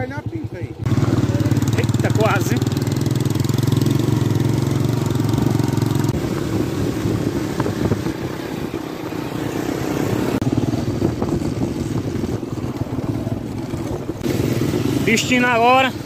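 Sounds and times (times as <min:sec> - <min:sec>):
small motorcycle engines running: 0:00.0 - 0:16.0.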